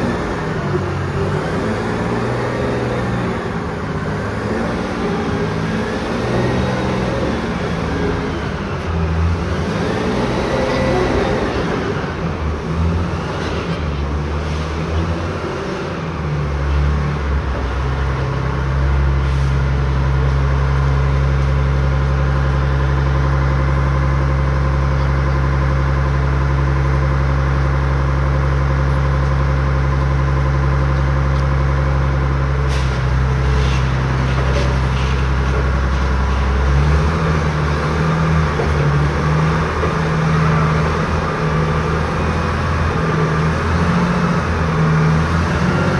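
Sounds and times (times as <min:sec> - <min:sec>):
tracked vehicle engine: 0:00.0 - 0:45.9.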